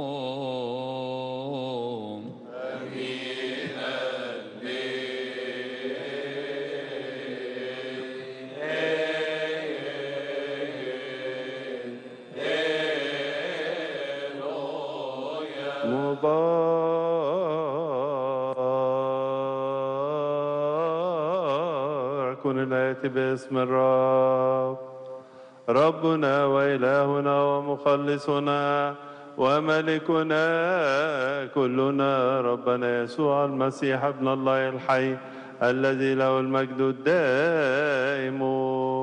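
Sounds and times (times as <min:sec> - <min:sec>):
men chanting a hymn: 0:00.0 - 0:39.0.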